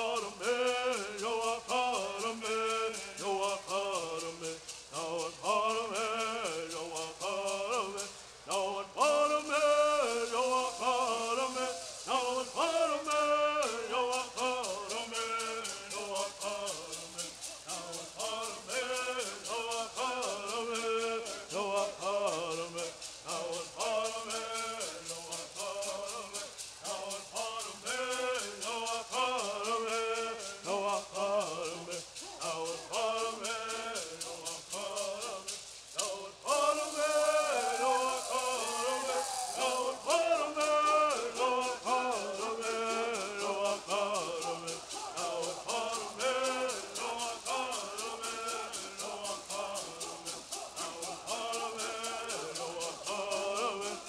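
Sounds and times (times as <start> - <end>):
gourd rattles shaking: 0.0 - 54.0
men singing in unison: 0.0 - 54.0.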